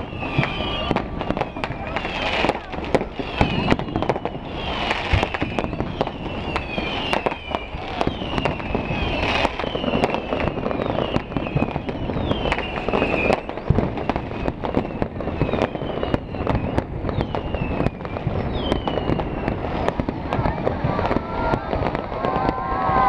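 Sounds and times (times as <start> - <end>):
falling firework whistles: 0.0 - 23.0
fireworks bangs and crackles: 0.0 - 23.0.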